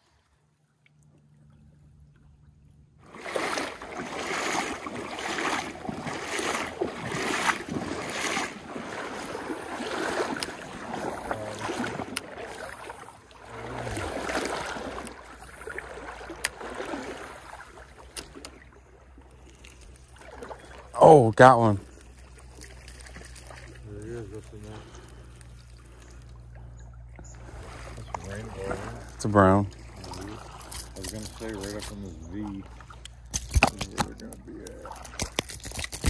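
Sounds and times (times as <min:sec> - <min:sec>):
water sloshing from wading: 0:00.0 - 0:36.0.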